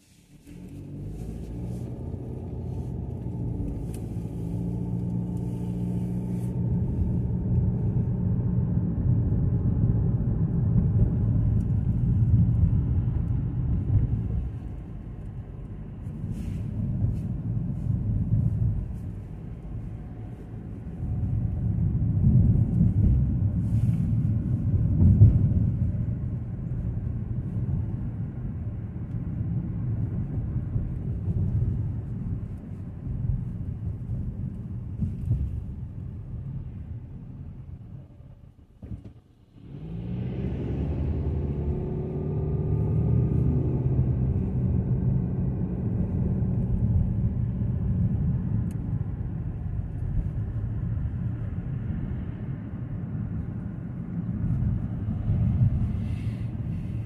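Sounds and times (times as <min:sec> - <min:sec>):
road and engine rumble in car: 0:00.0 - 0:57.0.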